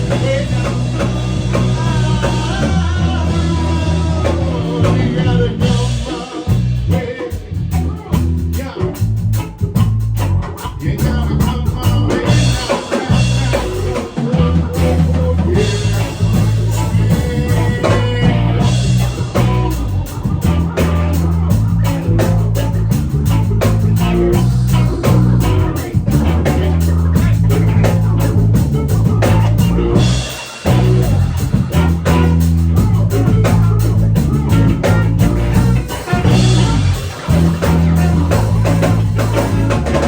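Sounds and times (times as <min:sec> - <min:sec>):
drum kit: 0:00.0 - 0:40.0
electric guitar: 0:00.0 - 0:40.0
repeating bass line: 0:00.0 - 0:40.0.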